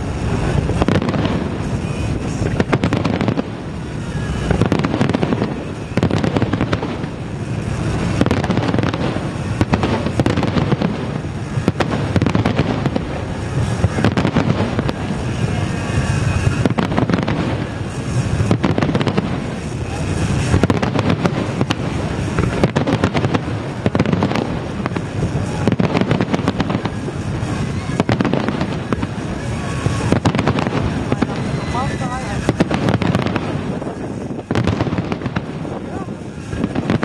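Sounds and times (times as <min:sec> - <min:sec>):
fireworks bangs: 0:00.0 - 0:37.0
fireworks rumble and crackle: 0:00.0 - 0:37.0.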